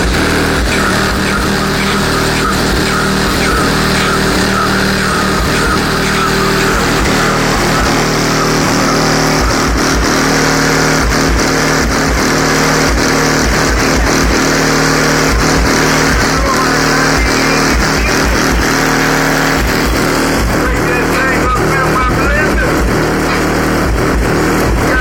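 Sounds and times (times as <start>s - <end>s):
rap music through car subwoofer: 0.0s - 25.0s.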